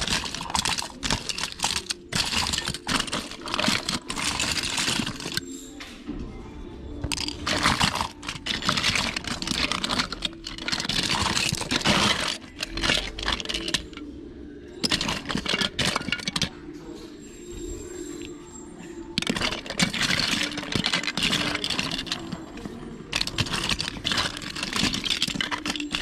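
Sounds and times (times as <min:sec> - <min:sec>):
plastic toys clattering: 0:00.0 - 0:05.7, 0:07.0 - 0:26.0.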